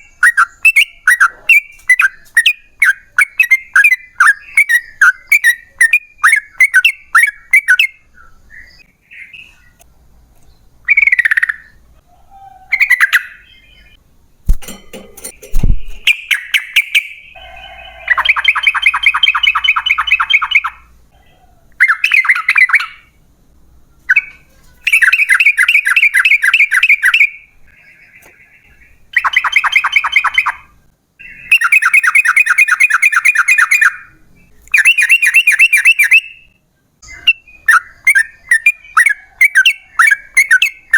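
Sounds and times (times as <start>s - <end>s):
bulbul singing: 0.0s - 12.0s, 12.6s - 23.2s, 24.1s - 40.9s.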